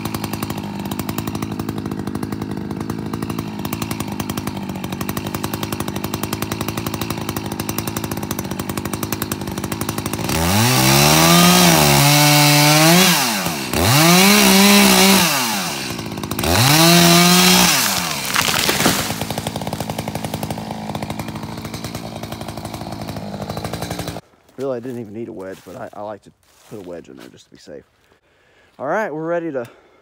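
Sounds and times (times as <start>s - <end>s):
tree cracking and falling: 0.0s - 24.2s
chainsaw idling and revving: 0.0s - 24.3s.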